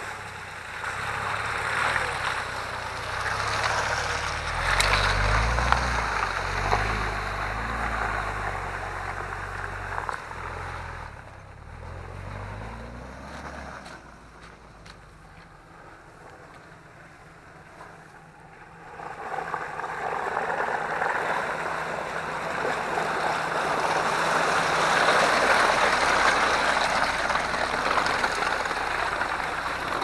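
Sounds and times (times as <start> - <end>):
tyres splashing through mud: 0.0 - 30.0
vehicle engine under load: 0.0 - 30.0.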